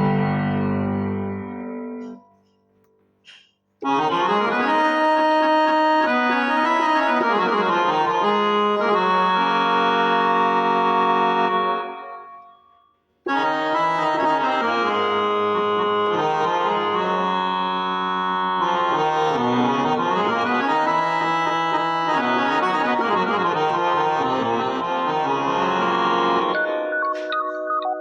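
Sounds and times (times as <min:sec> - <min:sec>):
keyboard held chord: 0:00.0 - 0:02.2, 0:03.8 - 0:12.6, 0:13.3 - 0:28.0
keyboard chords with melody: 0:00.0 - 0:02.3, 0:03.8 - 0:12.6, 0:13.3 - 0:28.0.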